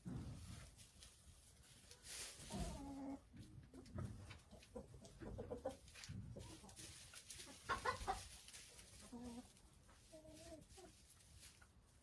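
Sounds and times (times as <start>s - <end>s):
chickens clucking: 0.1s - 12.0s.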